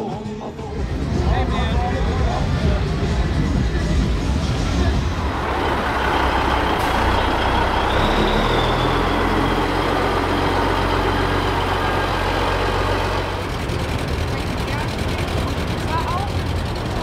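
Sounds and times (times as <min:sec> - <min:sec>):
large vehicle engine rumbling: 0:00.6 - 0:17.0.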